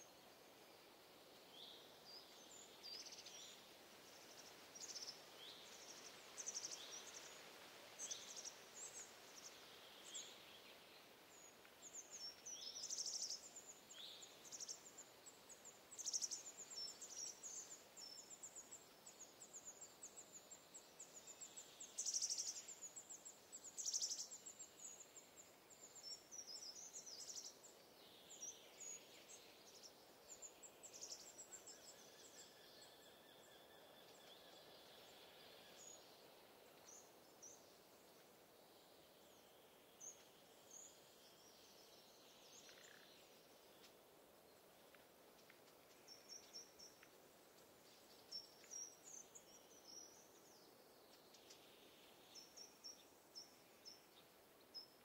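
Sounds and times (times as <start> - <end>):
faint birdsong chirps: 0.0 - 55.0
soft background hiss: 0.0 - 55.0.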